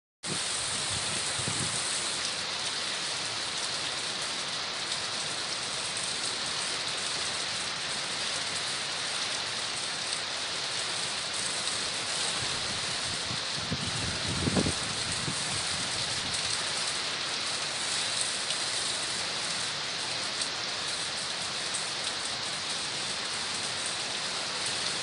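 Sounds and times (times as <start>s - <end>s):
heavy rain on street and rooftops: 0.2s - 25.0s.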